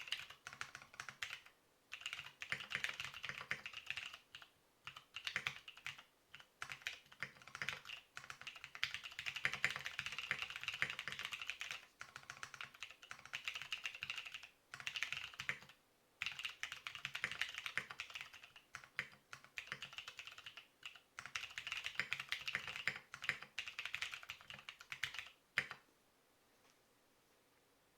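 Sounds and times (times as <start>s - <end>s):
typing on mechanical keyboard: 0.0s - 25.8s.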